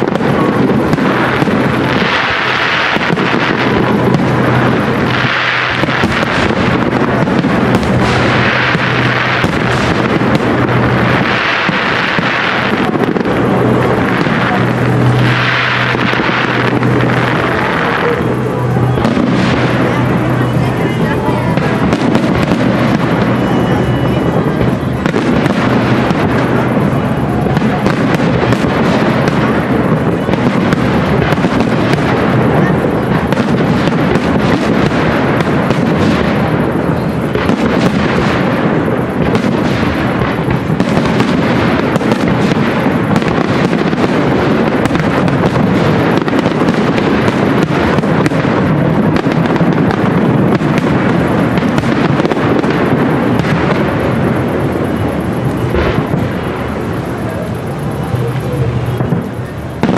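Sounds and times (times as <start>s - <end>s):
fireworks popping and banging: 0.0s - 59.9s.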